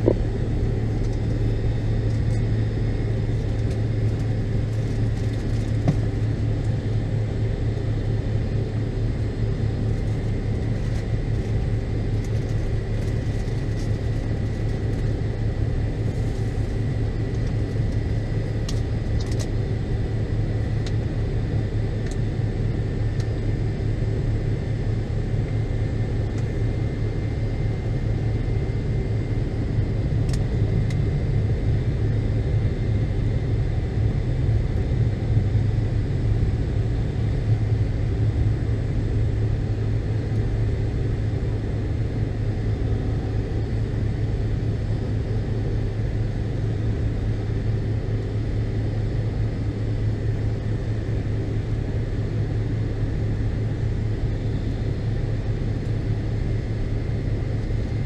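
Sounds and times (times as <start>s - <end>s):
faint steady whine: 0.0s - 58.0s
jet engines rumbling in cabin: 0.0s - 58.0s.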